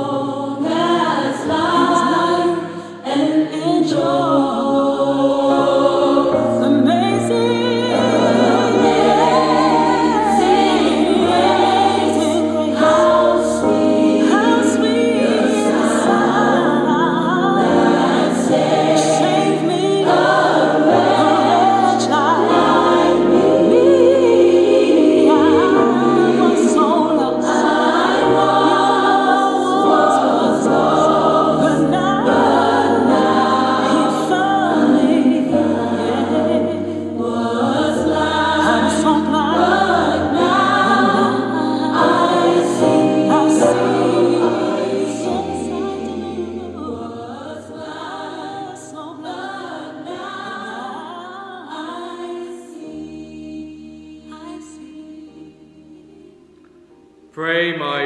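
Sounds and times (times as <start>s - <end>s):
choir singing a hymn: 0.0s - 56.9s.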